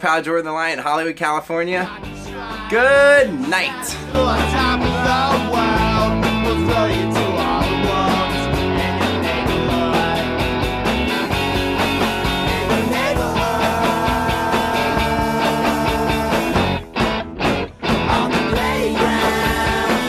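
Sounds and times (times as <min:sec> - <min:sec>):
rock music: 0:01.8 - 0:20.0.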